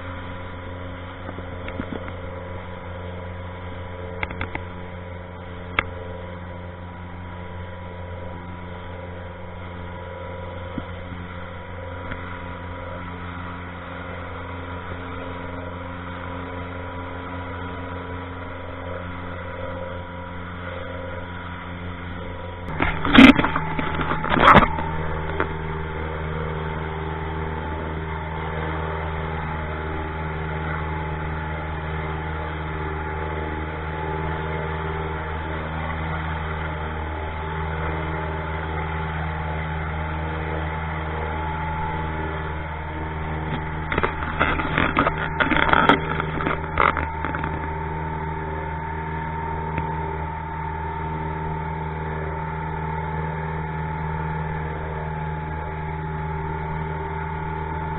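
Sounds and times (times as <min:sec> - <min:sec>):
motorboat engine droning: 0:00.0 - 0:57.9.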